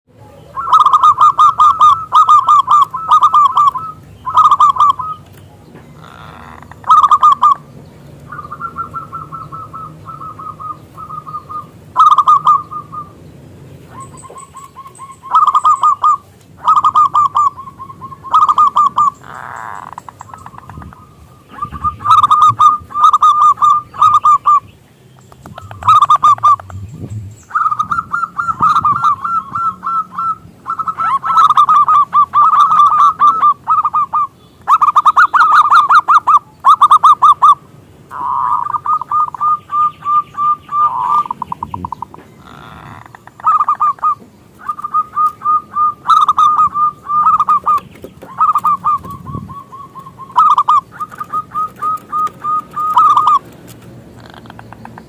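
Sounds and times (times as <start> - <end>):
dove cooing: 0.2 - 7.7, 8.3 - 13.2, 13.8 - 24.7, 25.3 - 53.6.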